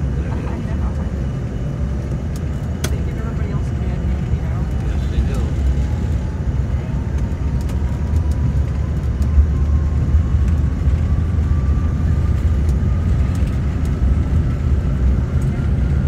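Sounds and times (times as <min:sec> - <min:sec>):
faint jet engine whine: 0:00.0 - 0:16.0
jet cabin low rumble: 0:00.0 - 0:16.0.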